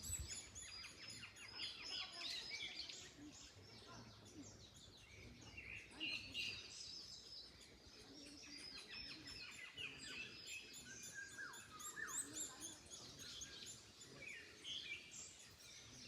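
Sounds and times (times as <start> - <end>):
small birds chirping and whistling: 0.0 - 16.0
wind in trees: 0.0 - 16.0.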